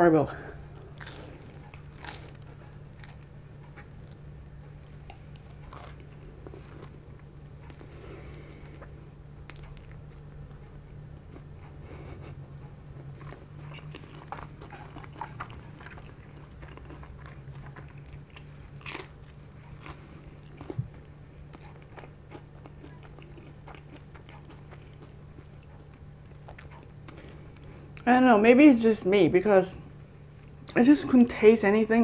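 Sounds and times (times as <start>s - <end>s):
steady low hum: 0.0s - 32.0s
chewing crunchy pizza crust: 0.4s - 28.1s.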